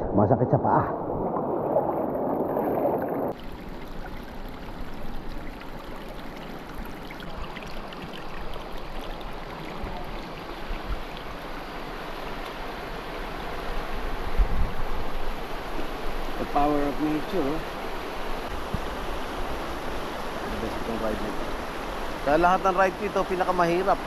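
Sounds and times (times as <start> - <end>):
river water rushing: 1.8 - 24.0.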